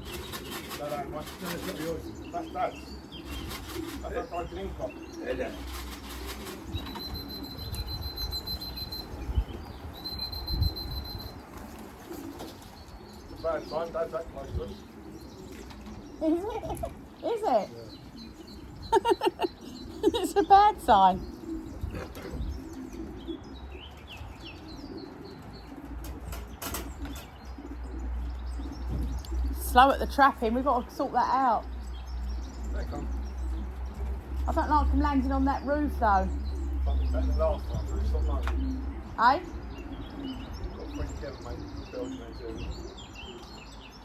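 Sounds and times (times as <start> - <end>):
pigeons cooing: 0.0 - 44.0
small birds chirping: 0.0 - 44.0.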